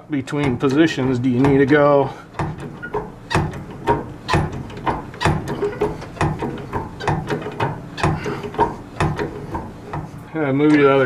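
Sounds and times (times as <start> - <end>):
jack clicking and clunking: 0.0 - 11.0.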